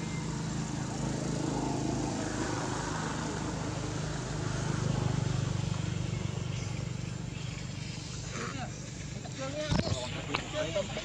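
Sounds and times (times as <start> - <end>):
engine hum passing: 0.0 - 11.0.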